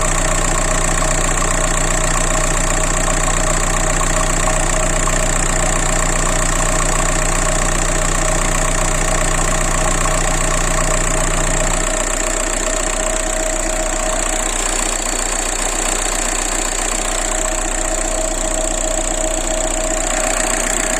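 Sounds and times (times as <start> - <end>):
diesel engine idling with knock: 0.0 - 20.9.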